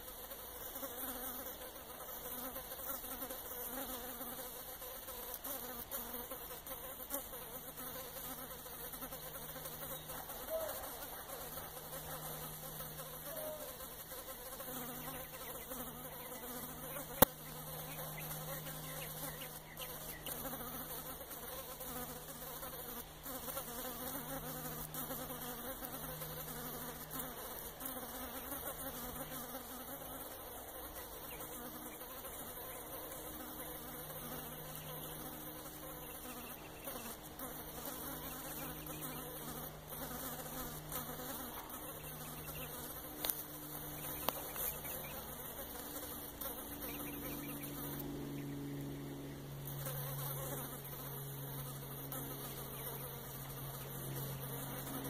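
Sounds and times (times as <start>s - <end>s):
fly buzzing: 0.0s - 55.0s.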